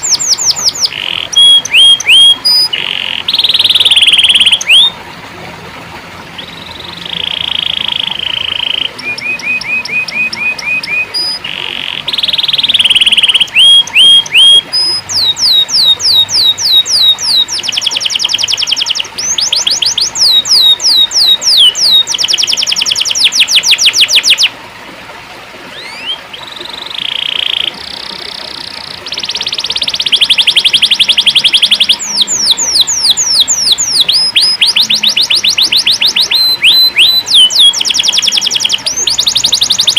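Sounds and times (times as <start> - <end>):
canary singing trills: 0.0 - 5.0, 6.4 - 24.5, 25.7 - 39.9.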